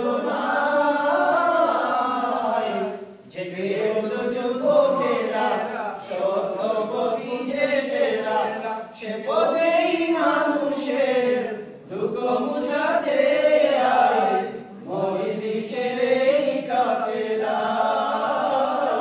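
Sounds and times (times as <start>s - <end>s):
men singing in unison: 0.0s - 19.0s.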